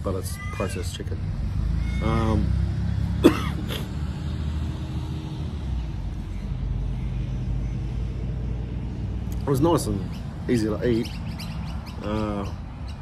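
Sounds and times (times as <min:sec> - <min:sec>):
faint engine hum: 0:00.0 - 0:13.0
road traffic rumble: 0:00.0 - 0:13.0.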